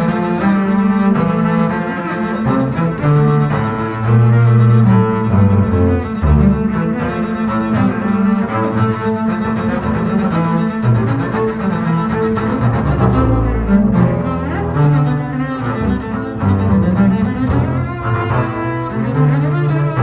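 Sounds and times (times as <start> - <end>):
double basses playing tango: 0.0 - 20.0.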